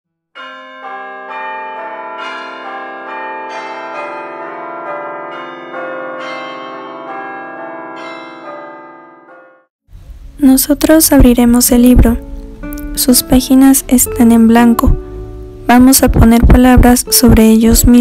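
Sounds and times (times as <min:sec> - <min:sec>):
bells ringing notes: 0:00.4 - 0:09.7, 0:12.2 - 0:18.0.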